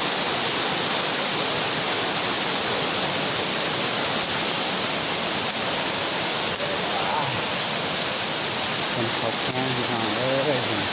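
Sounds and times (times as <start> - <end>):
floodwater rushing in a stream: 0.0 - 10.9.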